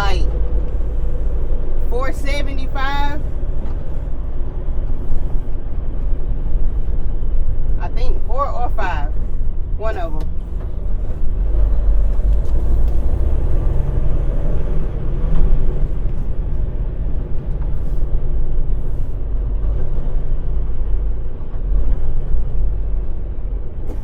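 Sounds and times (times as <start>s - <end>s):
diesel truck engine drone: 0.0s - 24.0s.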